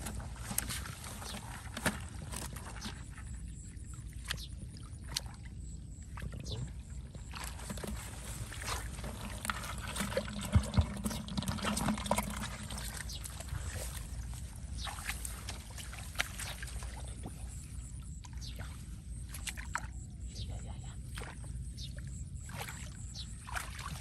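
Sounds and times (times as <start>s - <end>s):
water splashing and trickling: 0.0s - 24.0s.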